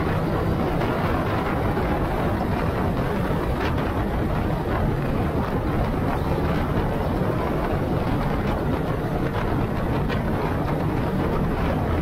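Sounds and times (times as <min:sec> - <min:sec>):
motorcycle engine running: 0:00.0 - 0:12.0
wind noise: 0:00.0 - 0:12.0.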